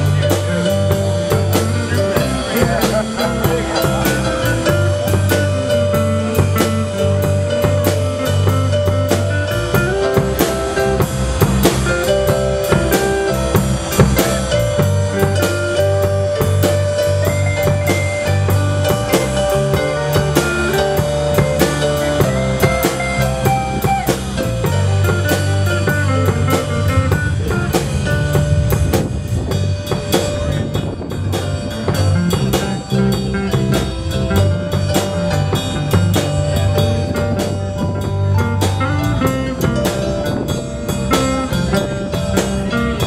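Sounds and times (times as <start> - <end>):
bass line: 0.0 - 43.0
drum kit: 0.0 - 43.0
electric guitars: 0.0 - 43.0
keyboard: 0.0 - 43.0.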